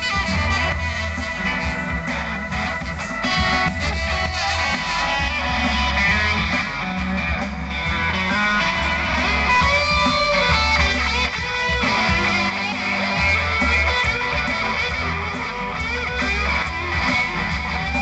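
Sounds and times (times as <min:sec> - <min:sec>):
low bass line: 0:00.0 - 0:18.0
strummed guitars: 0:00.0 - 0:18.0.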